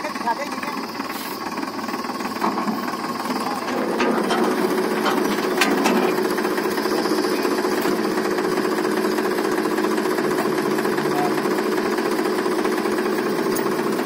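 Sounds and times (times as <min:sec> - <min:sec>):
diesel tractor engine idling: 0:00.0 - 0:14.0.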